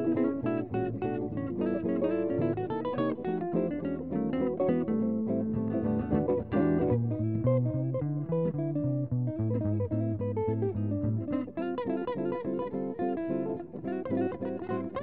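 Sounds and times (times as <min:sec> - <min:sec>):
guitar duet: 0:00.0 - 0:15.0.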